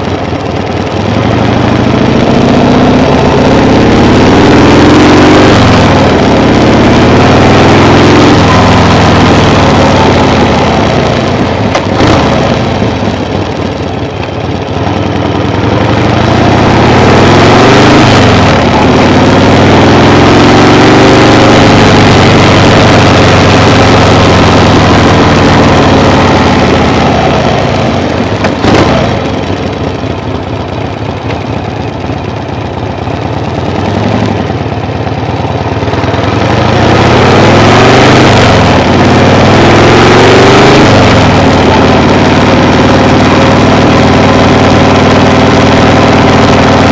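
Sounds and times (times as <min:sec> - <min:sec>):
vehicle engine revving: 0:00.0 - 0:13.8, 0:14.6 - 0:46.9.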